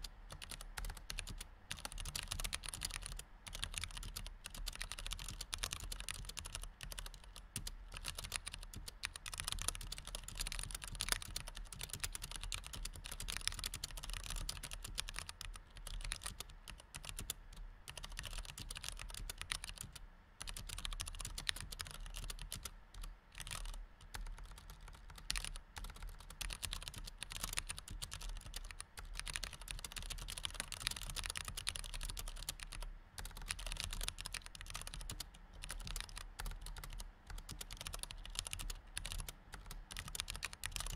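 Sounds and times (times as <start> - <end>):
fast typing on computer keyboard: 0.0 - 40.9.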